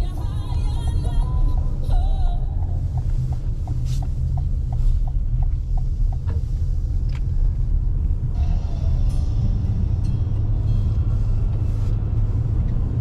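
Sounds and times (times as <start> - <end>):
road and tyre rumble: 0.0 - 13.0
turn signal ticking: 0.0 - 13.0.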